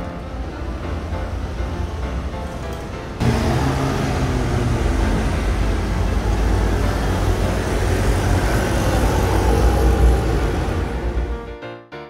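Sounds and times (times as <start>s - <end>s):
cars passing: 0.0s - 11.5s
bus passing: 0.0s - 11.6s
motor scooters passing: 0.4s - 11.4s.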